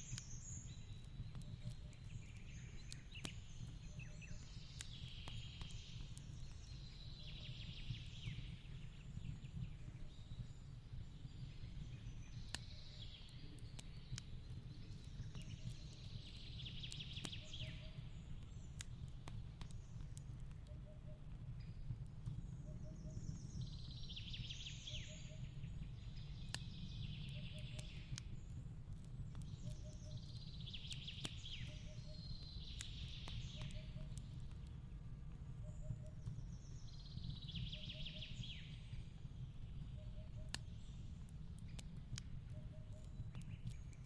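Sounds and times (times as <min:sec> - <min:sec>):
log fire crackling and popping: 0:00.0 - 0:44.0
songbird singing: 0:00.0 - 0:44.0.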